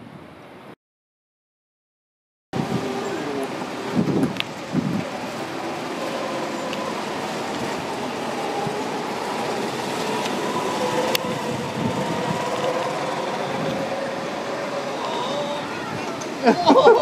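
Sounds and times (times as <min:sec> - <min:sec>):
go-kart engines droning: 0:02.6 - 0:17.0.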